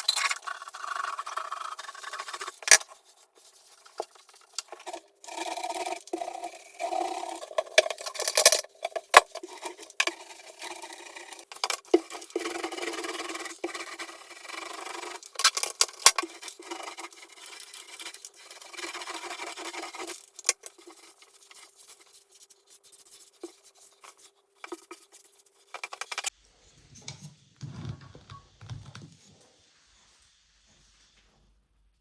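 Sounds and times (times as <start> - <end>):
rubbing and scraping strokes: 0.0 - 26.4.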